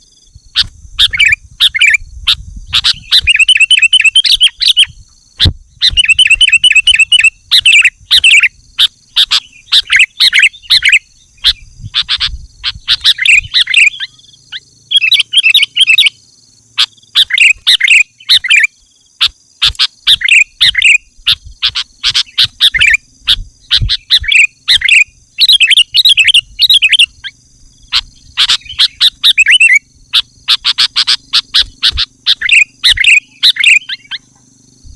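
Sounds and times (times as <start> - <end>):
bird chattering song: 0.0 - 34.9.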